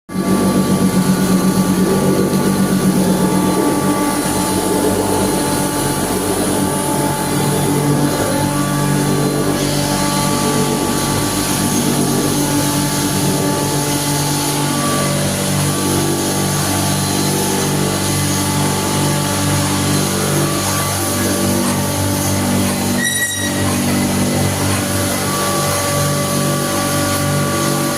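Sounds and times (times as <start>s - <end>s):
grinder motor humming and whining: 0.1s - 27.9s.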